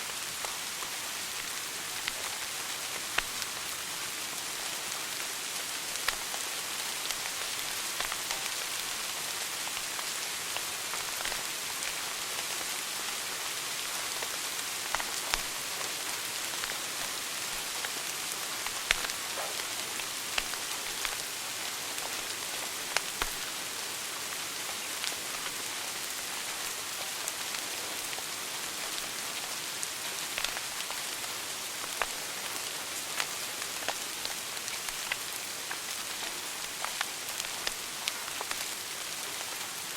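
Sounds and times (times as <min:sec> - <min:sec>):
logs crackling and popping: 0:00.1 - 0:03.8, 0:04.4 - 0:13.2, 0:13.8 - 0:39.9.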